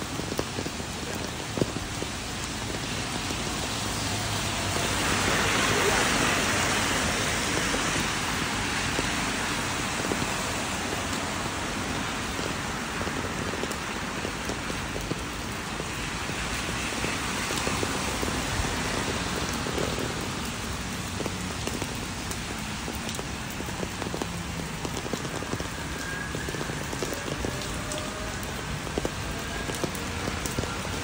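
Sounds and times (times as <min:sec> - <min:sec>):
car tyres swishing on wet road: 0:00.0 - 0:31.0
rain on wet pavement: 0:00.0 - 0:31.0.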